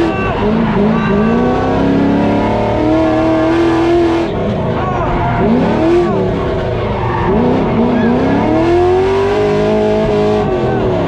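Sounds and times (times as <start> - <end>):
car engine revving hard: 0.0 - 11.0
tire noise: 0.0 - 11.0.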